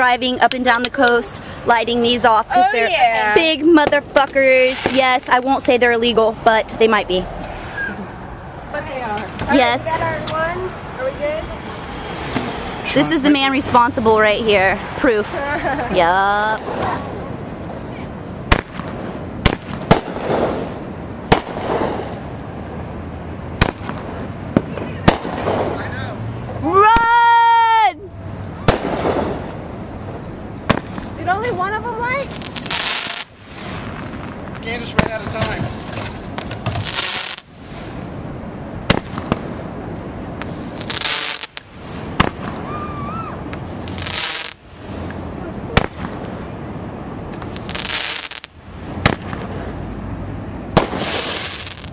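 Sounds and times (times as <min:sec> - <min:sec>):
fireworks bangs: 0:00.0 - 0:27.8, 0:28.4 - 0:49.9, 0:50.7 - 0:51.9
rushing hiss of fireworks: 0:01.1 - 0:06.0, 0:07.2 - 0:13.8, 0:14.5 - 0:26.2, 0:28.5 - 0:29.8, 0:30.7 - 0:49.9, 0:50.7 - 0:51.9.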